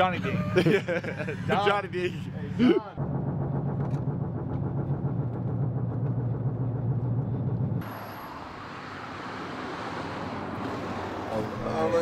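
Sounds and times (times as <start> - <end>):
engine and road drone in cabin: 0.0 - 12.0.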